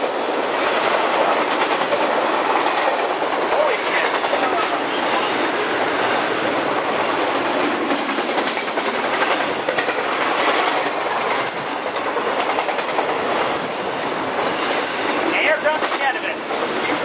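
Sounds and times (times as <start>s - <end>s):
train wheels rushing on rail: 0.0s - 17.0s
rhythmic wheel clatter: 0.8s - 17.0s.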